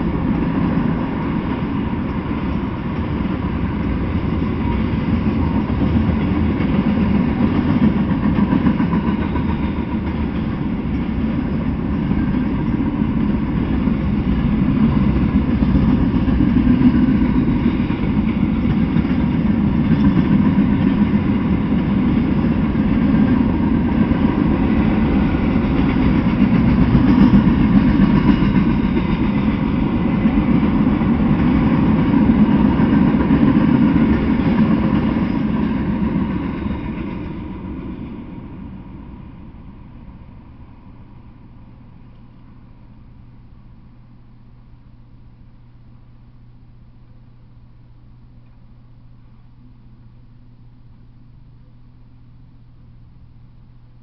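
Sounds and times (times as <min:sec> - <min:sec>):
train wheels on rails: 0:00.0 - 0:43.7.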